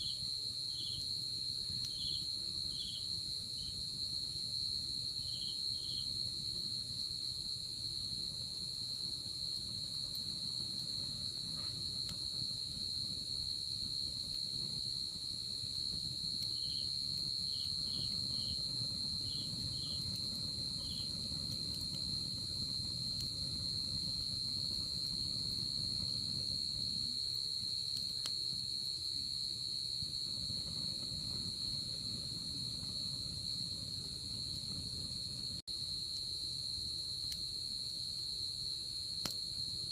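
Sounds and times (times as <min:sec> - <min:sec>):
campfire low rumble: 0:00.0 - 0:39.9
crickets trilling: 0:00.0 - 0:39.9
fire crackles: 0:00.0 - 0:39.9.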